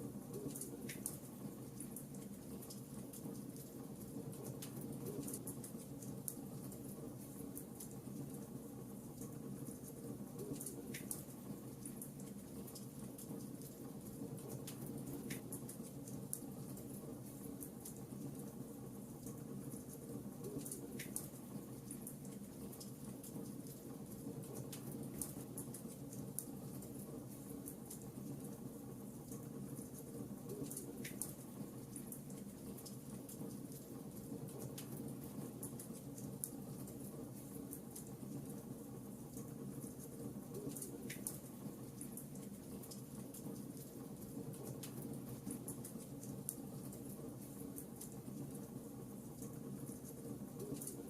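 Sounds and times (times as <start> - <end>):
wood fire crackling in fireplace: 0.0 - 51.0.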